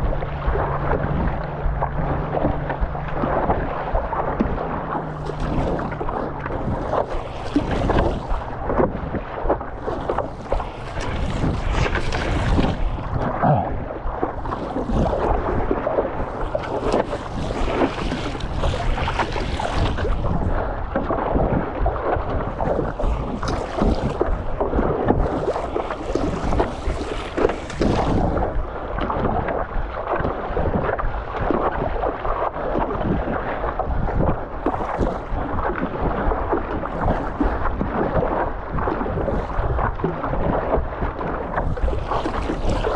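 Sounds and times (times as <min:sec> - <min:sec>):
water sloshing and splashing: 0:00.0 - 0:42.9
wind buffeting microphone: 0:00.0 - 0:42.9.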